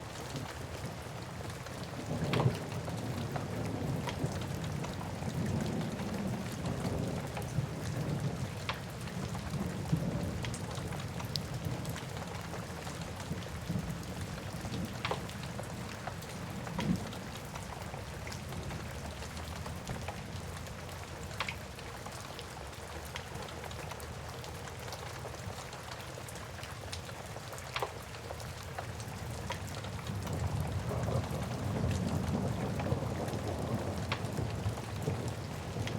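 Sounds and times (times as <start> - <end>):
rain: 0.0 - 35.9.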